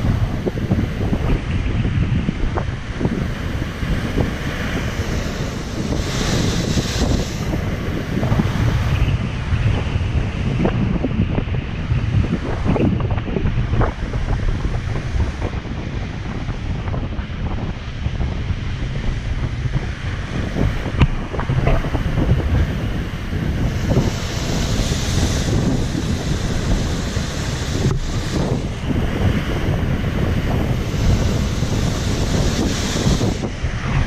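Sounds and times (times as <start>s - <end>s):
surf crashing on rocks: 0.0s - 34.0s
wind buffeting microphone: 0.0s - 34.0s.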